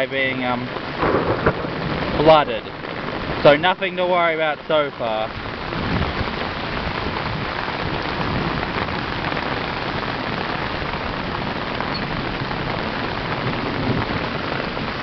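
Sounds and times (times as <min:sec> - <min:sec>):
heavy rain falling: 0:00.0 - 0:15.0
storm water rushing in gutter: 0:00.0 - 0:15.0.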